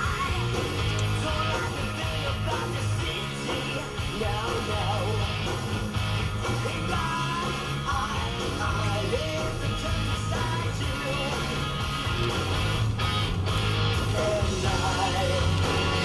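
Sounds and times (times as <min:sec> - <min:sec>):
rock song on car radio: 0:00.0 - 0:16.0.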